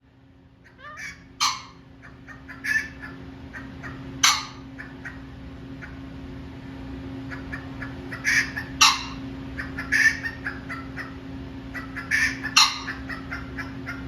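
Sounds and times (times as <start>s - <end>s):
pheasant harsh calls: 0.6s - 6.0s, 7.3s - 14.0s.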